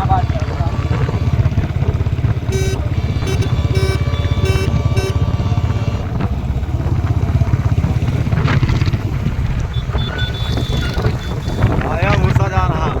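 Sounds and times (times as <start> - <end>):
motorcycle engine thumping: 0.0 - 12.6.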